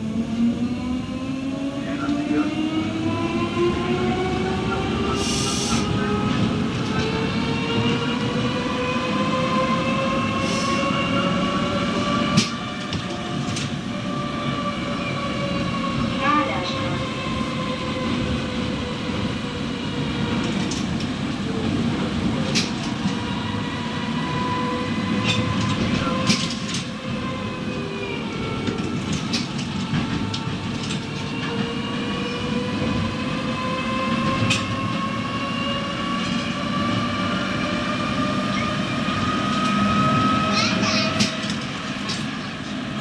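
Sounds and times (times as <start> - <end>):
tram rumbling with drive whine: 0.0 - 43.0.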